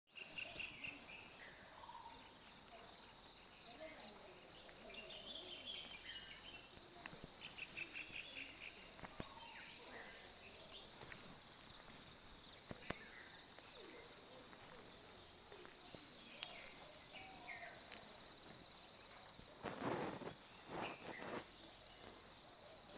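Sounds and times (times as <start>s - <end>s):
birds chirping: 0.1s - 22.9s.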